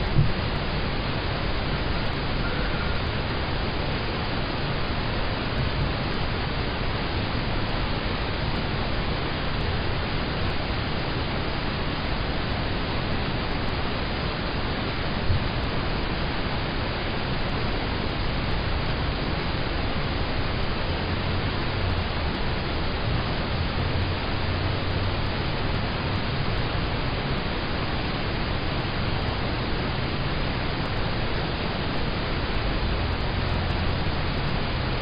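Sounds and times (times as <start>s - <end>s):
rain on a car roof: 0.0s - 35.0s.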